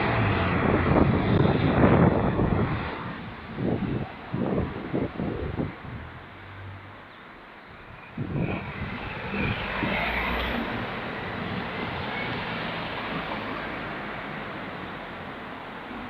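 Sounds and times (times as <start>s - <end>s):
passing vehicle rush: 0.0s - 16.0s.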